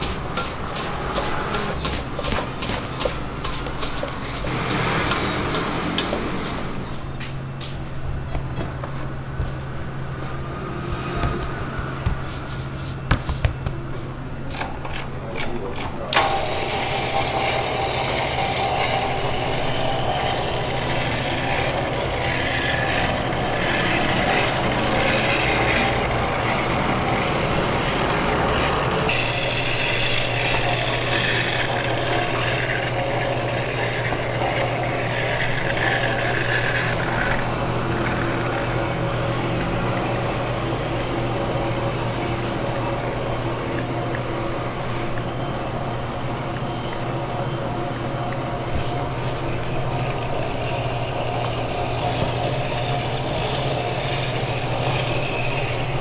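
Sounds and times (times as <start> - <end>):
electric dough sheeter running: 0.0 - 7.0, 16.1 - 56.0.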